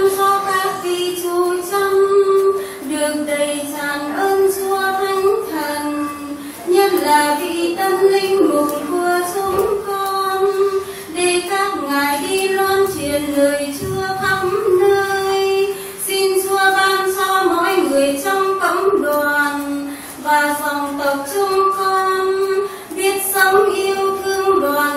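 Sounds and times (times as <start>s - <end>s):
women singing a hymn: 0.0s - 24.9s.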